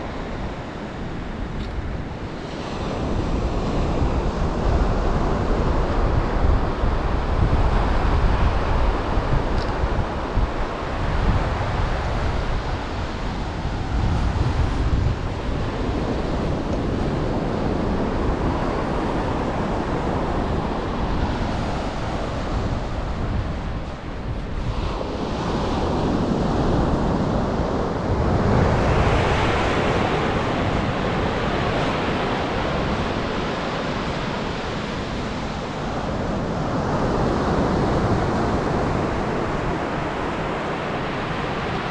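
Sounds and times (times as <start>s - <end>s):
wind buffeting microphone: 0.0s - 41.9s
surf breaking on beach: 2.3s - 41.9s.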